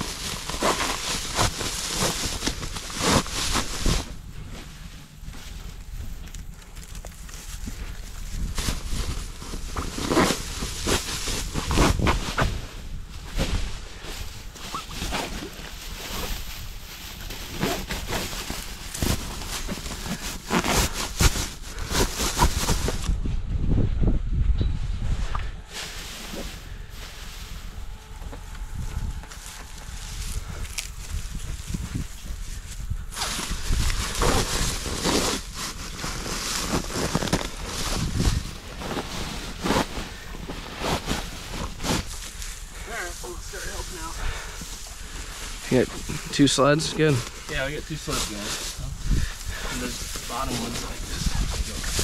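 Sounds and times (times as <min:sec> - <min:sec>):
dry grass rustling and crackling: 0:00.0 - 0:23.4, 0:24.8 - 0:52.0
wind rumbling on microphone: 0:00.0 - 0:46.4, 0:48.7 - 0:52.0.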